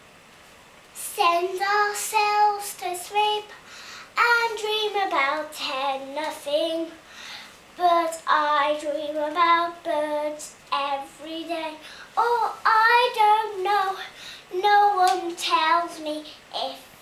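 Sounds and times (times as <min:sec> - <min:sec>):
girl singing unaccompanied: 0:00.9 - 0:17.0.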